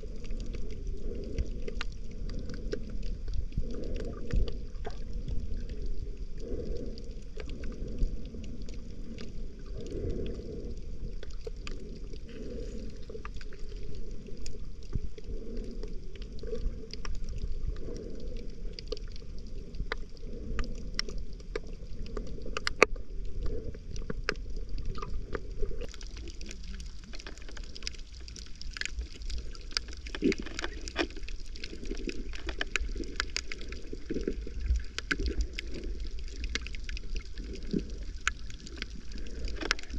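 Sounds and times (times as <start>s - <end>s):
muffled underwater rush: 0.0s - 39.9s
sharp clicks and crackles: 0.0s - 39.9s.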